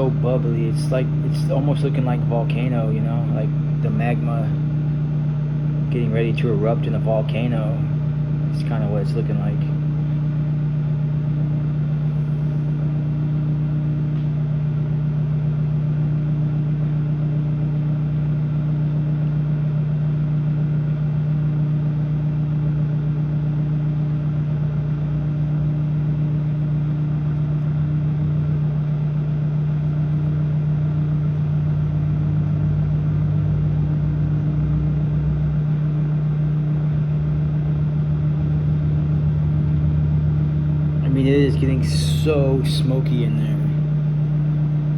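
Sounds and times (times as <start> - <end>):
microwave oven humming: 0.0 - 44.9.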